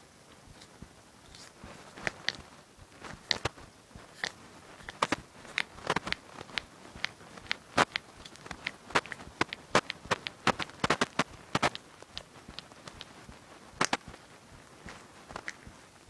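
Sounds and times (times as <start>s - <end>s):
knuckles cracking: 0.5s - 13.2s, 13.8s - 15.8s.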